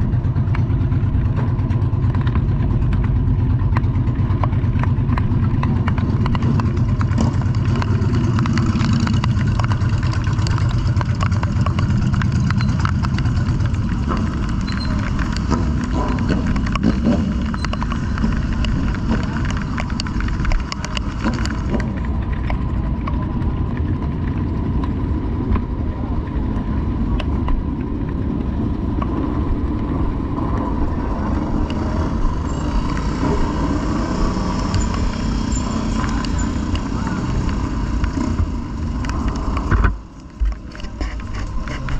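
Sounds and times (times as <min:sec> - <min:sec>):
motorcycle engine and road wind: 0:00.0 - 0:41.9.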